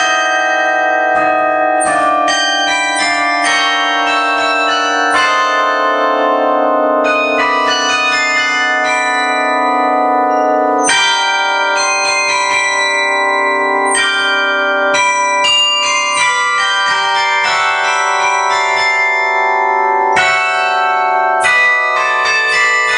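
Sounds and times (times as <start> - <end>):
carillon bells playing melody: 0.0 - 22.9.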